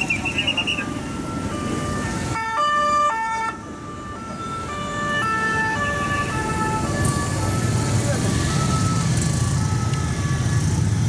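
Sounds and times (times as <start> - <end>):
engine and traffic rumble: 0.0 - 11.0
two-tone police sirens: 0.0 - 11.0.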